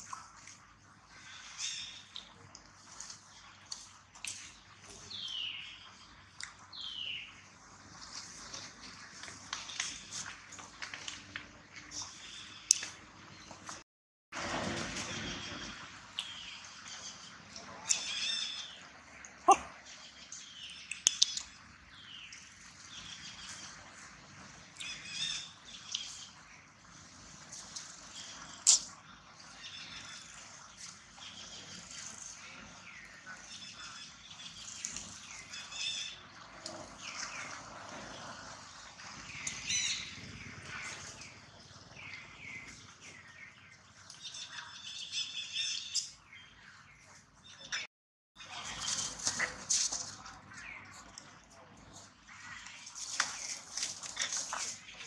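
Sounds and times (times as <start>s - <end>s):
birds chirping: 0.0s - 13.8s, 14.8s - 55.0s.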